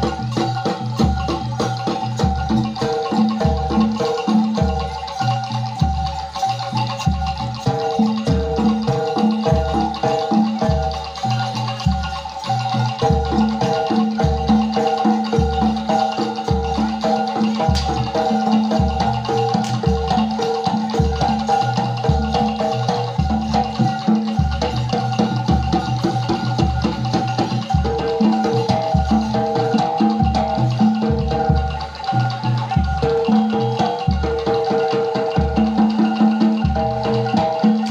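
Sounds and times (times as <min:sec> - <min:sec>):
metallophone melody: 0:00.0 - 0:37.9.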